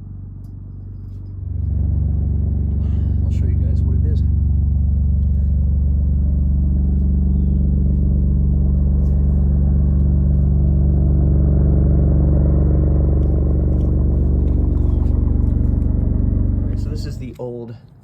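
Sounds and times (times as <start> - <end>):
machine humming: 0.8 - 17.4.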